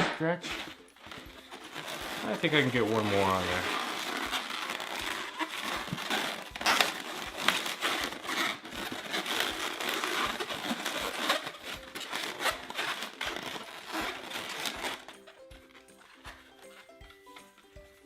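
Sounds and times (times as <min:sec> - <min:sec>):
balloon rubbing crinkly rustle: 0:00.4 - 0:18.0.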